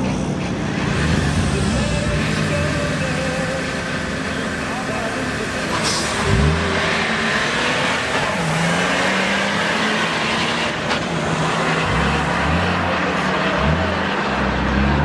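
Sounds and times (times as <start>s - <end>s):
car engines accelerating hard: 0.0s - 15.0s.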